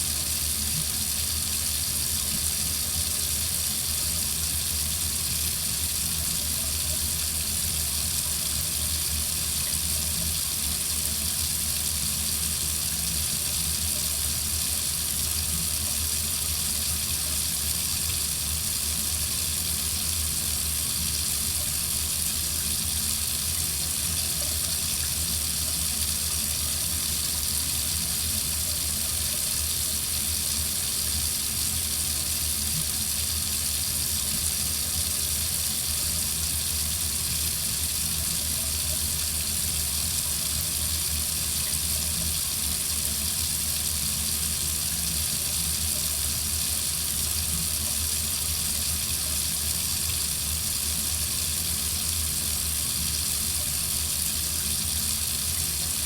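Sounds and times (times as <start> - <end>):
water faucet running: 0.0 - 56.0.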